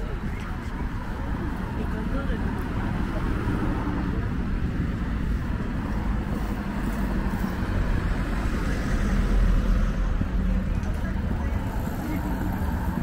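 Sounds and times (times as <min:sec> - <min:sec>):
passing traffic rumble: 0:00.0 - 0:13.0.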